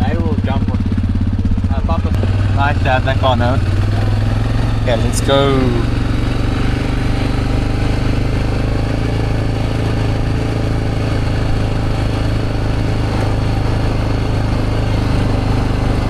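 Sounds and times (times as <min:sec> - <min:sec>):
vehicle engine running steadily: 0:00.0 - 0:16.0.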